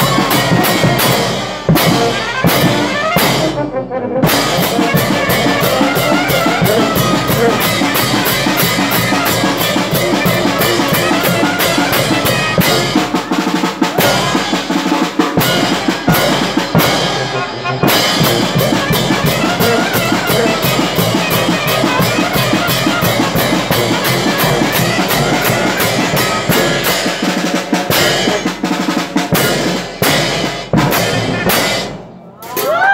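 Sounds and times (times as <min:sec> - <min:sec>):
snare and bass drums beating: 0:00.0 - 0:03.6, 0:04.2 - 0:32.1
marching band music: 0:00.0 - 0:32.7.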